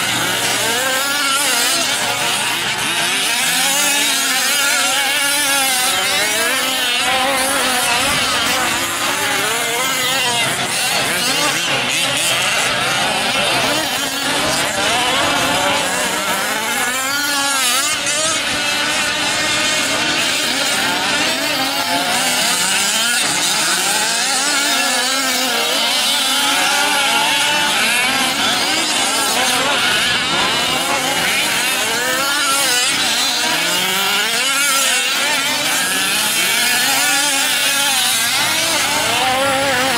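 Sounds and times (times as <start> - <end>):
small two-stroke engines revving: 0.0 - 39.9.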